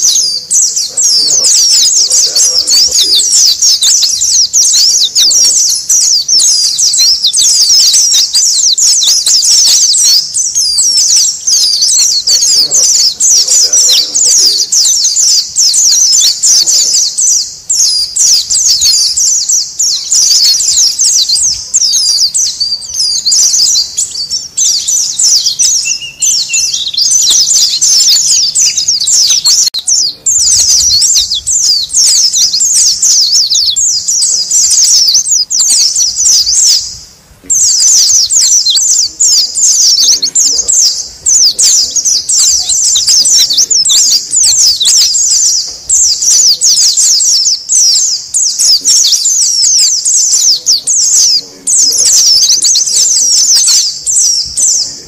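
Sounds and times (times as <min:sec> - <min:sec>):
birds twittering and chirping: 0:00.0 - 0:55.0.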